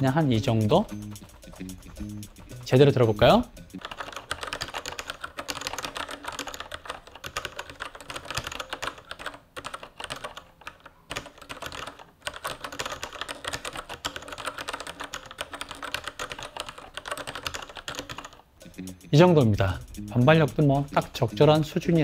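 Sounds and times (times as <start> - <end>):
typing on mechanical keyboard: 0.0 - 18.8.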